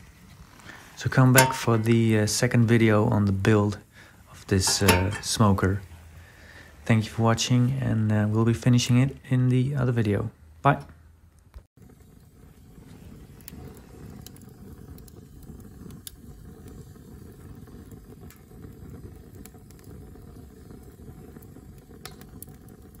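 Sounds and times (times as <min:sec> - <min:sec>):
logs crackling and popping: 0:00.0 - 0:09.8, 0:11.4 - 0:23.0
fire flames rumbling: 0:00.0 - 0:23.0.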